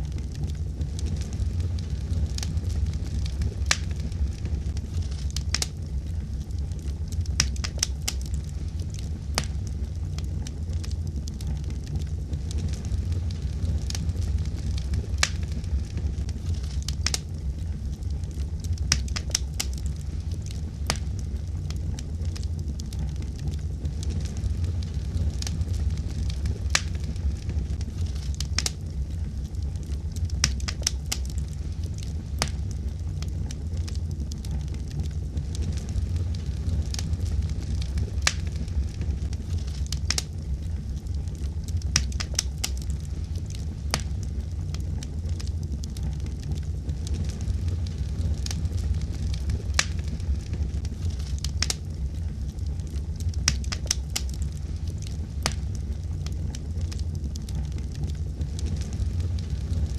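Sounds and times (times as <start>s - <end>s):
fire crackles and pops: 0.0s - 59.9s
low rumble of flames: 0.0s - 59.9s.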